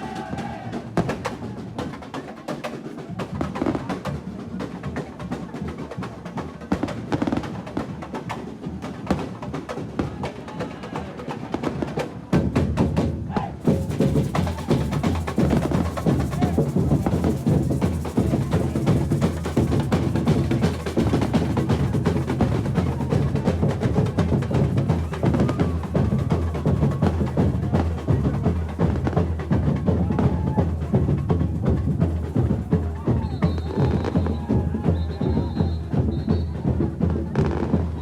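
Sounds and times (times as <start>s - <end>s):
percussion music: 0.0s - 38.0s.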